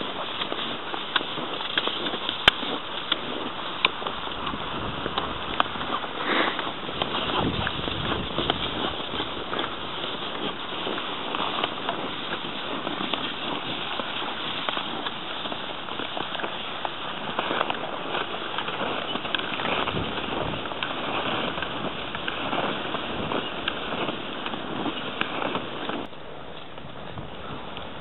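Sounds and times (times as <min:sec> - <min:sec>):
skis sliding over packed snow: 0:00.0 - 0:28.0.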